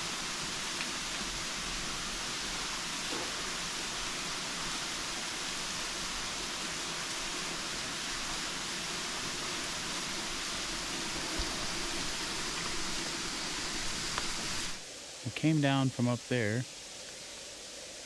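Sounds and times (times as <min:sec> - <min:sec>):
waterfall splashing: 0:00.0 - 0:14.8.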